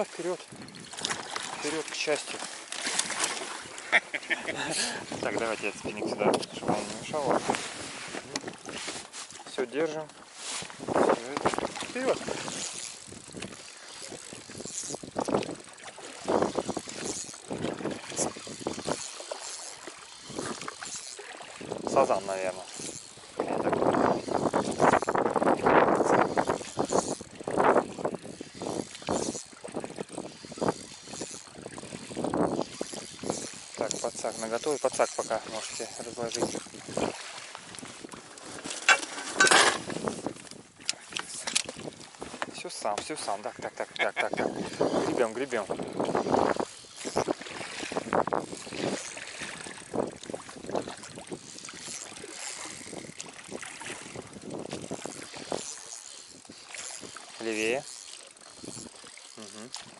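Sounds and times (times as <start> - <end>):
fishing reel cranking and clicking: 0.0 - 59.9
oars splashing: 0.0 - 59.9.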